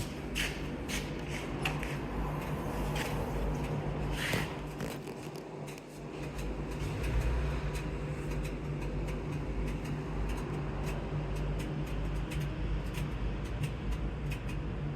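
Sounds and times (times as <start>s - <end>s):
car engine idling: 0.0s - 14.9s
rustling and handling clicks: 0.1s - 14.6s.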